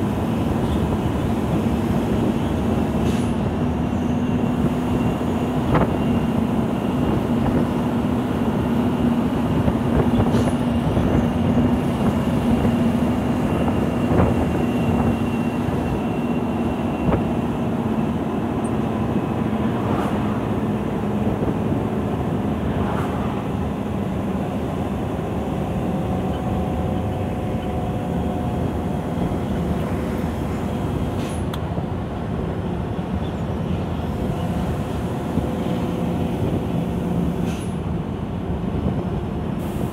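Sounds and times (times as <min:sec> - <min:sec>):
diesel truck engine hum: 0:00.0 - 0:39.9.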